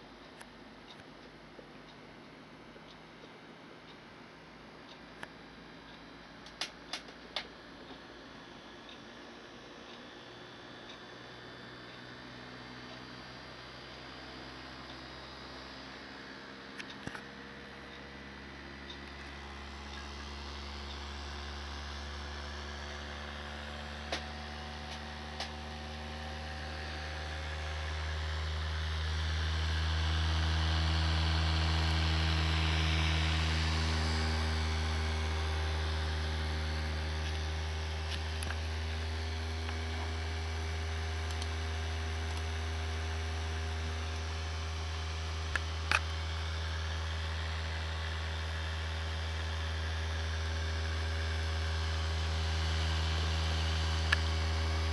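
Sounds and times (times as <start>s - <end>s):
cpu cooler fan humming: 0.0s - 54.9s.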